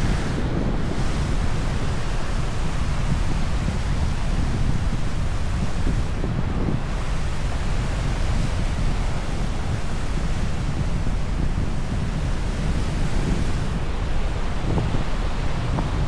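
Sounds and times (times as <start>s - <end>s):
ocean surf washing on shore: 0.0s - 16.0s
wind buffeting microphone: 0.0s - 16.0s.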